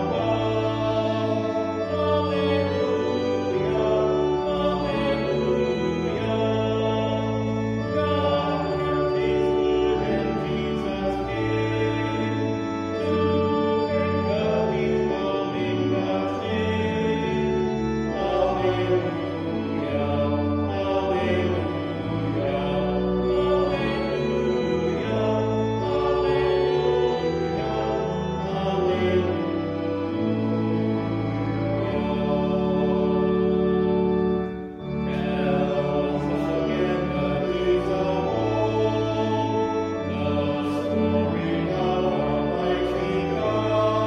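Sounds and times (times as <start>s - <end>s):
choir singing a hymn: 0.0s - 44.0s
organ chords: 0.0s - 44.0s.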